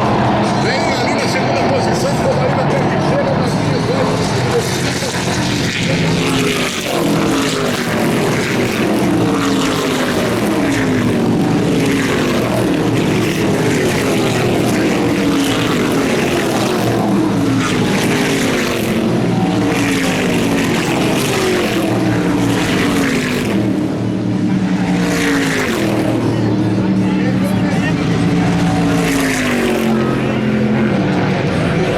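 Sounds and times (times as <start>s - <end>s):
race cars passing at speed: 0.0s - 31.9s.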